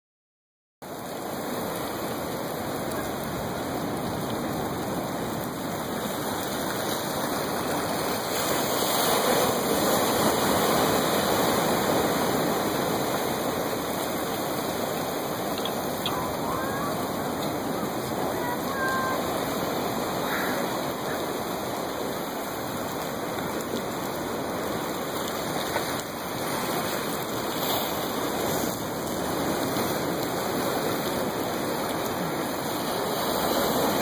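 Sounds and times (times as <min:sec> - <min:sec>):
ocean surf washing: 0:00.8 - 0:34.0.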